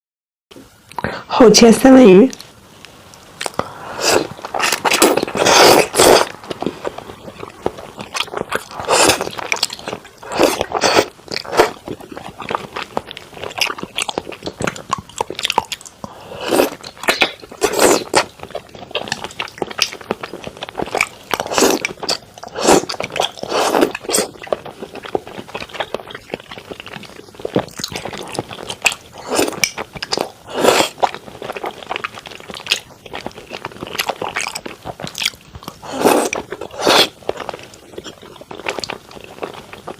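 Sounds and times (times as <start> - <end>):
soft mouth sounds: 3.1 - 39.9
biting and chewing food: 3.4 - 39.9.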